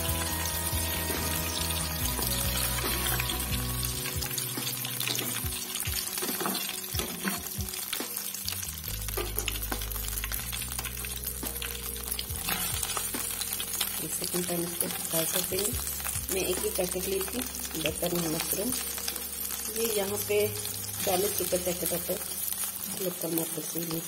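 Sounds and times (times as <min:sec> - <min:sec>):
background music: 0:00.0 - 0:24.0
hot oil sizzling and crackling: 0:00.0 - 0:24.0.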